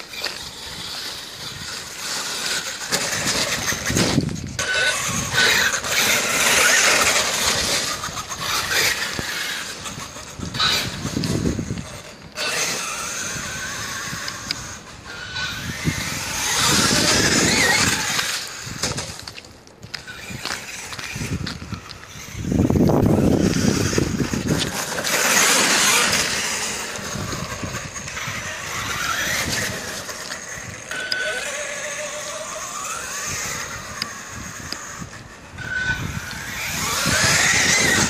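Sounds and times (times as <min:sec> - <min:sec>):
electric motor whining: 0:00.0 - 0:38.0.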